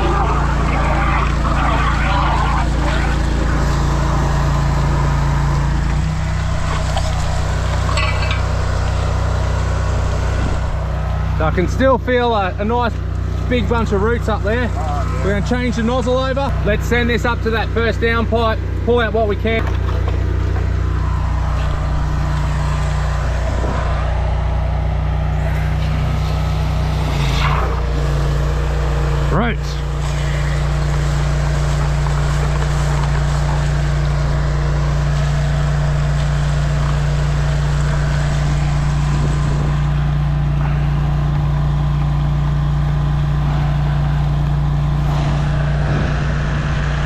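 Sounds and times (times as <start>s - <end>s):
drain jetter engine running: 0.0s - 47.0s.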